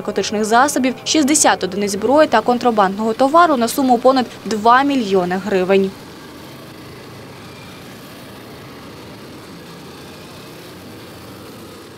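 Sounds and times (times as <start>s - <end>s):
small motorcycle engines running: 0.0s - 11.9s.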